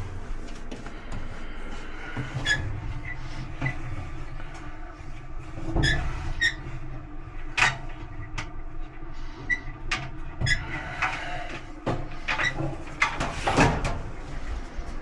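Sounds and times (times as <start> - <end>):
clothes dryer humming: 0.0 - 15.0.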